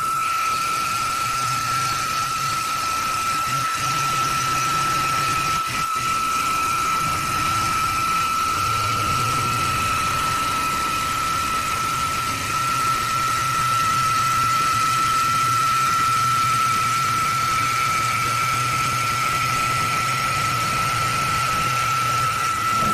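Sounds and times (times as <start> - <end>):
wood lathe whining: 0.0 - 22.9.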